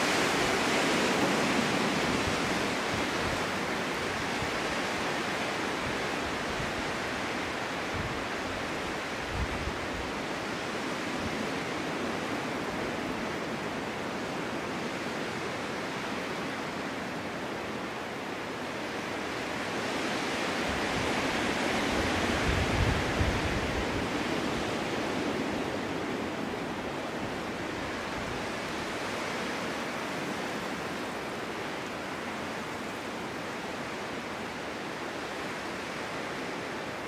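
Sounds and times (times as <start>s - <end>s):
snowstorm wind blowing: 0.0s - 37.0s.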